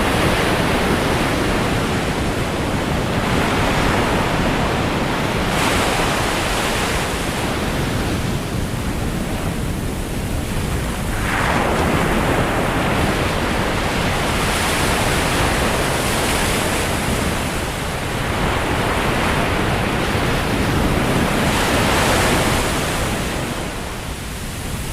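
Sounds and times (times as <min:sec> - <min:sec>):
sea waves breaking on shore: 0:00.0 - 0:24.9
wind buffeting microphone: 0:00.0 - 0:24.9.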